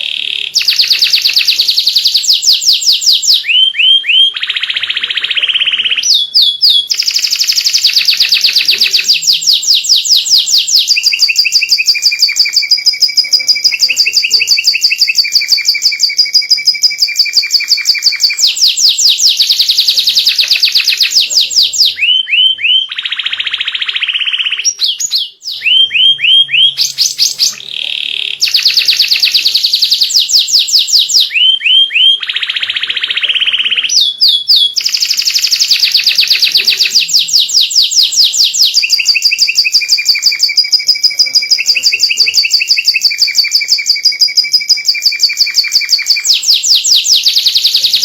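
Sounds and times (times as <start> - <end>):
canary singing trills: 0.0 - 48.0.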